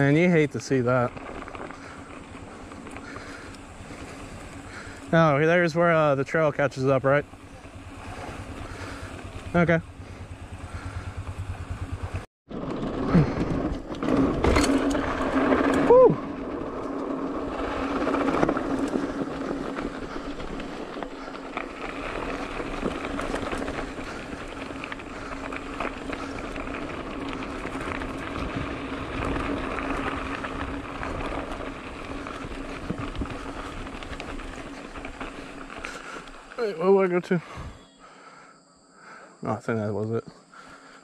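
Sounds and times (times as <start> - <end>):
bike rattling and clicking: 0.0 - 38.2
bike tyres rolling on dirt: 0.0 - 41.0.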